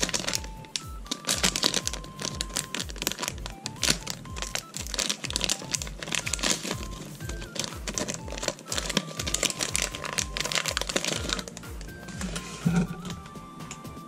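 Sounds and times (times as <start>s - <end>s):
foil wrapper crinkling and tearing: 0.0s - 13.1s
background music with steady beat: 0.0s - 14.0s.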